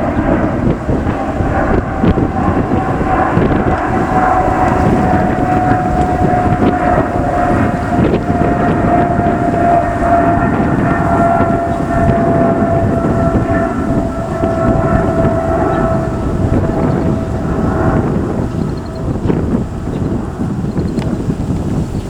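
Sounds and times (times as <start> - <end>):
jet engines passing close: 0.0 - 22.0.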